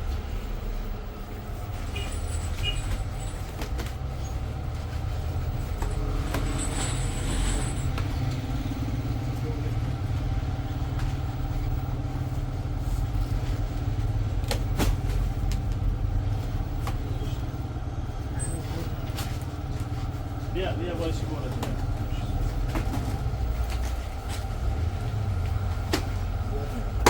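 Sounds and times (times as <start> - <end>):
motor vehicle rumbling: 0.0 - 27.0.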